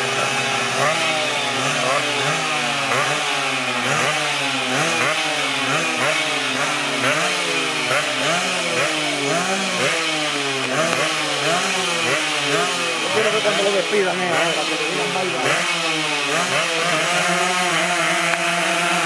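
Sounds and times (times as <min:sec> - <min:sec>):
racing engines revving: 0:00.0 - 0:19.0.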